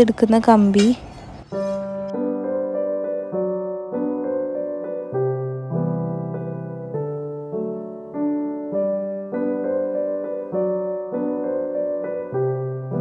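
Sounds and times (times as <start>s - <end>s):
keyboard notes and chords: 1.4s - 13.0s.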